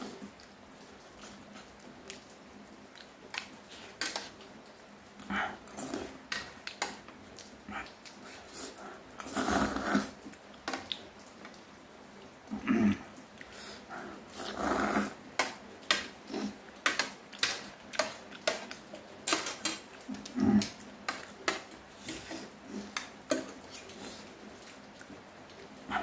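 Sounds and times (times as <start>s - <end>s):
slurping and chewing: 0.0s - 11.6s, 12.2s - 26.0s.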